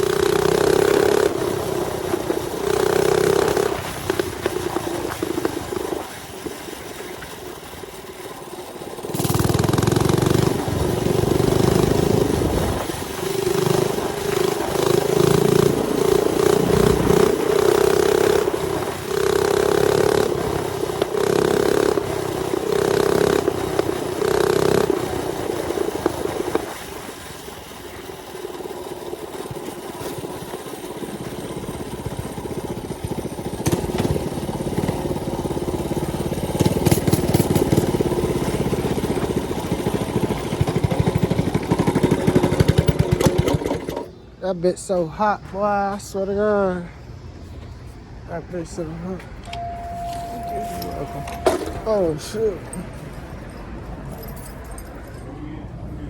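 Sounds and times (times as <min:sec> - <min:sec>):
small engine revving: 0:00.0 - 0:44.3, 0:48.5 - 0:52.9.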